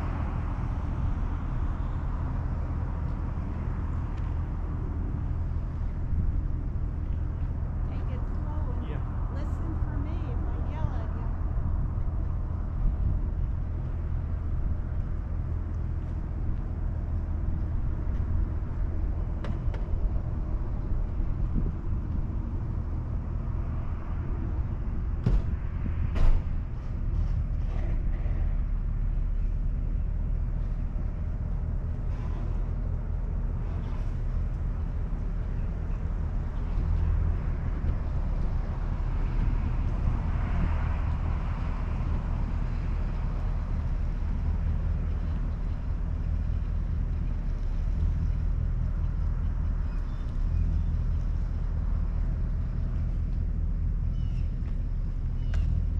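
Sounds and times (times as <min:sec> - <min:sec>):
vehicle engine running slowly: 0:00.0 - 0:55.9.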